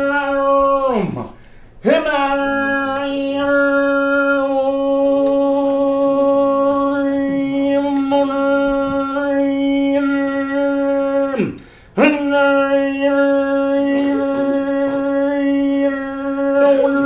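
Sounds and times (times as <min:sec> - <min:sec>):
man chanting a drone note: 0:00.0 - 0:17.0.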